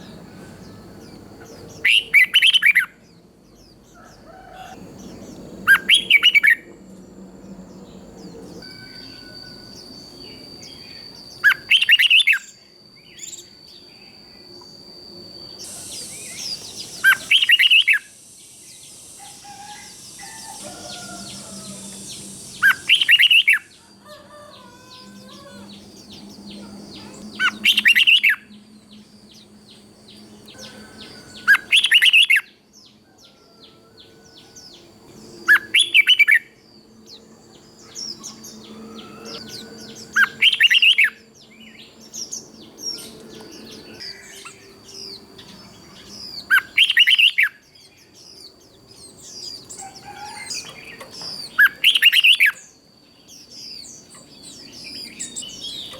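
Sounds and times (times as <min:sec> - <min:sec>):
bird singing loud phrases: 0:00.0 - 0:06.7, 0:07.4 - 0:33.0, 0:33.6 - 0:55.9
faint bird chirping: 0:00.0 - 0:55.9.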